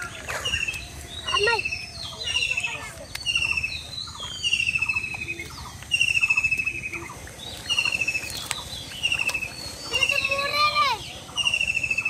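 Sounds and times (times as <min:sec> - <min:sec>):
bird trilled call: 0:00.0 - 0:12.0
faint bird chirps: 0:00.0 - 0:12.0.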